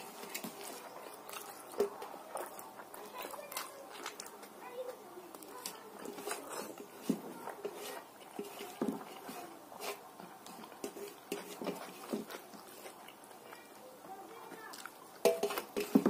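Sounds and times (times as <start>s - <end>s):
chewing and lip-smacking: 0.0s - 13.8s, 14.6s - 15.7s
fingers mixing rice on metal plate: 0.0s - 16.0s.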